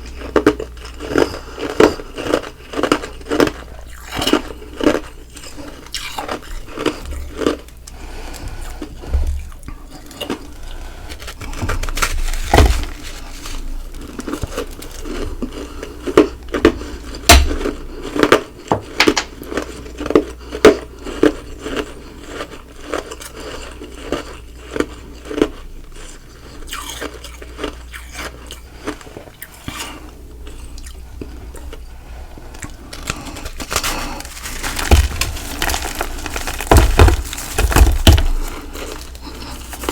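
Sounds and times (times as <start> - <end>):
crunchy ice chewing: 0.0 - 39.9.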